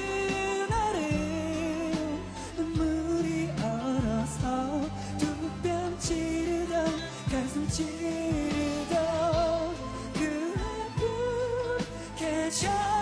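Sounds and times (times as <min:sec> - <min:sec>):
band accompaniment: 0:00.0 - 0:13.0
man singing pop song: 0:00.0 - 0:13.0.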